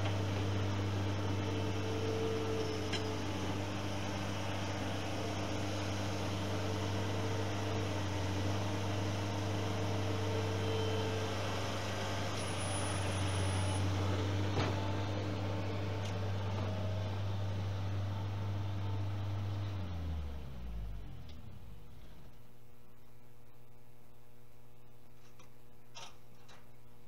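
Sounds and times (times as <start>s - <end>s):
skid steer engine humming: 0.0s - 22.4s.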